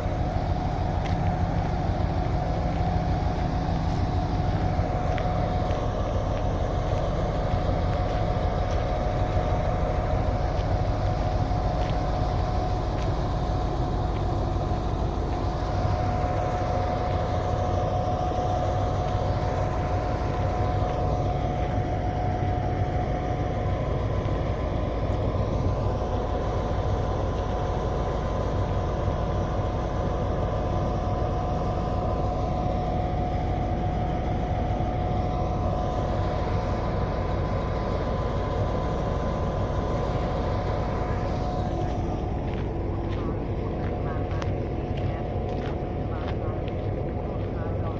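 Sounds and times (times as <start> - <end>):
constant high whine: 0.0 - 47.9
diesel locomotive idling: 0.0 - 47.9.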